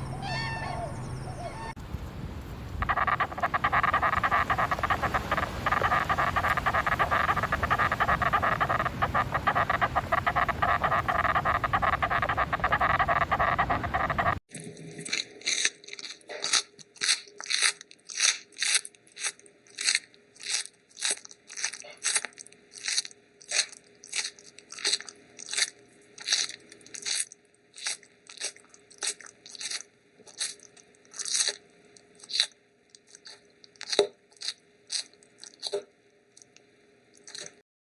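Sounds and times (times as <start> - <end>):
faint steady hum: 0.0 - 37.6
crunchy chewing: 2.8 - 35.8, 36.4 - 37.6.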